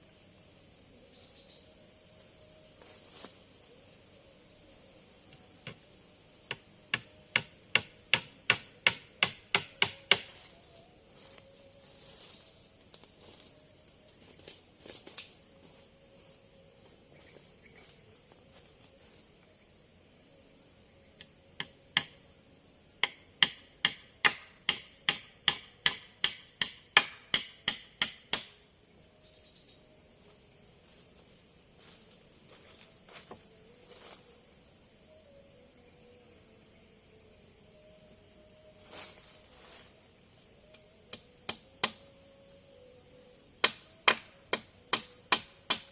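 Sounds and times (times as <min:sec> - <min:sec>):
insects droning: 0:00.0 - 0:45.9.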